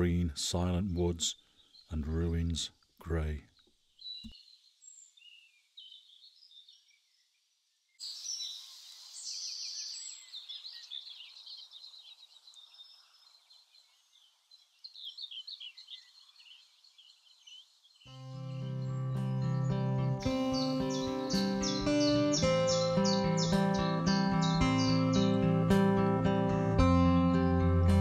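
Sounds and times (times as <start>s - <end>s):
songbirds chirping and trilling: 0.0s - 28.0s.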